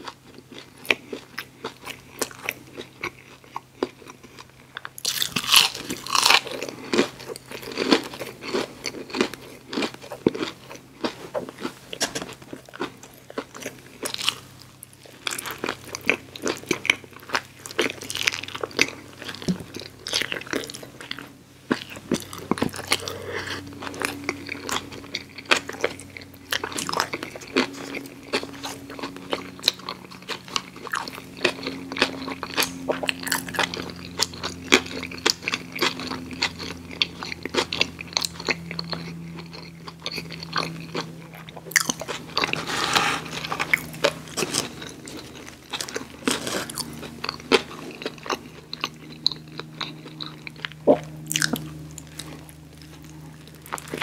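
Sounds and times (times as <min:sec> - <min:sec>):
crunchy bites and chewing: 0:00.0 - 0:54.0.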